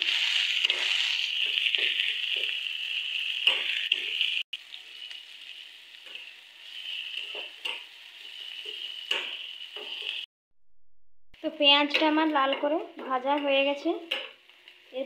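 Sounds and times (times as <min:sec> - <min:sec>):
onions sizzling in hot oil: 0:00.0 - 0:10.3, 0:11.4 - 0:15.0.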